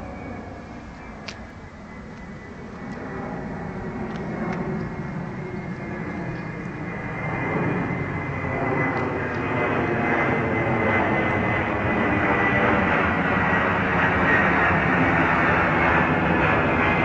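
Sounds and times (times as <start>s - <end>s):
jet airliner flying overhead: 0.0s - 17.0s.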